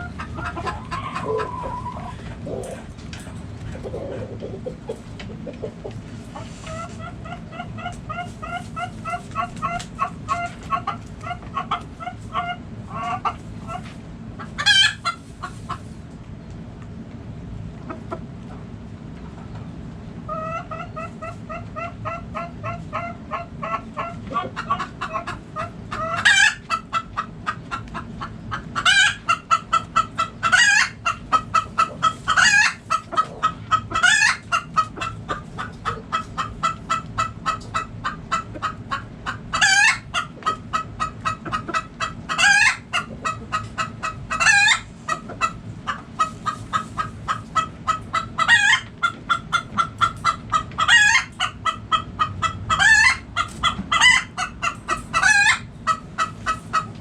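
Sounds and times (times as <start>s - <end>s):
sharp loud chicken calls: 0.0s - 2.8s, 3.8s - 15.8s, 20.3s - 57.0s
chickens clucking: 0.0s - 17.0s, 17.6s - 57.0s.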